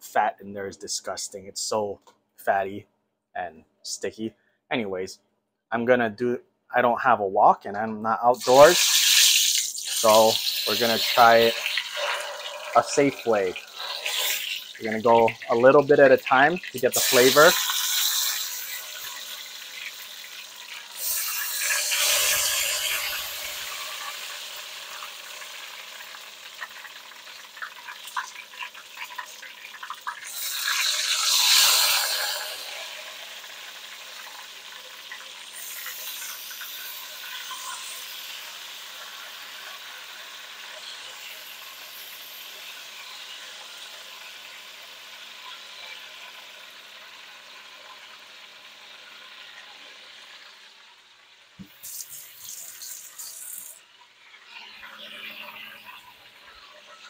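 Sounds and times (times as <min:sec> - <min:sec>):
food sizzling in hot oil: 0:08.4 - 0:57.0.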